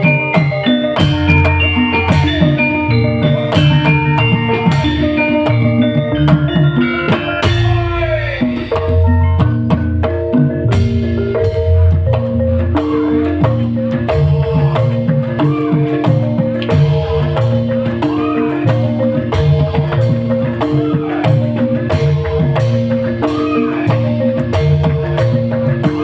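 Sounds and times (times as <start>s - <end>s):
repeating pitched notes: 0.0s - 26.0s.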